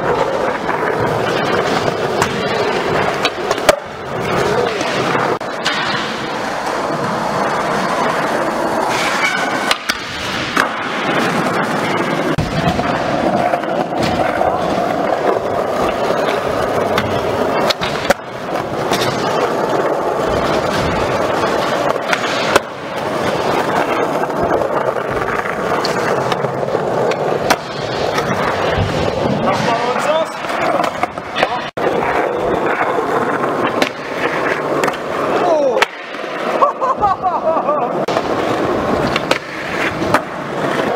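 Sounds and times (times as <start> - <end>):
skateboard clacks: 0.0 - 40.9
skateboard scraping a ledge: 0.0 - 40.9
skateboard wheels rolling on concrete: 0.0 - 40.9.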